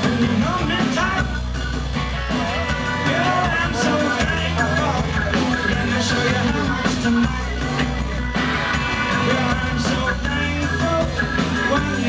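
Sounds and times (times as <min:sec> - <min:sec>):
man singing: 0:00.0 - 0:01.7, 0:02.8 - 0:08.1, 0:08.9 - 0:12.0
drums with cymbal beat: 0:00.0 - 0:12.0
electric guitars: 0:00.0 - 0:12.0.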